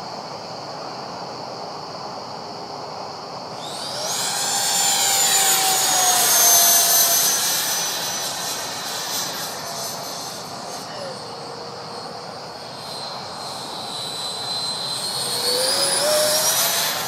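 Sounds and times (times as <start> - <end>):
model jet fan whine: 0.0 - 17.0.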